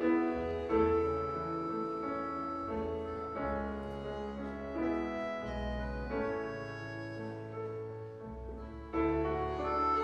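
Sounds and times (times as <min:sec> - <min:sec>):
low bass: 0:00.0 - 0:09.6
accordion chords: 0:00.0 - 0:10.0
piano: 0:00.0 - 0:10.0.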